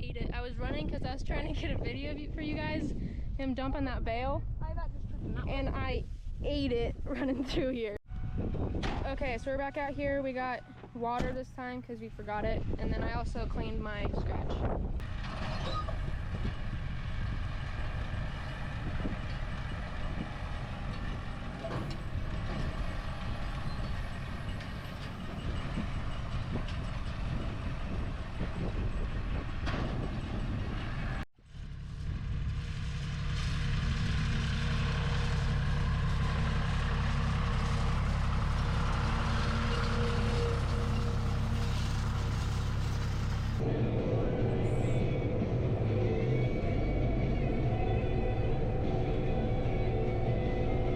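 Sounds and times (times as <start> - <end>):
tractor engine running: 7.5 - 50.9.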